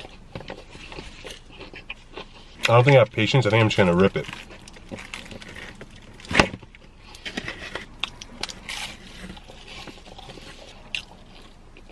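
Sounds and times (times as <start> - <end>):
crisp crust cracking: 0.0 - 11.9.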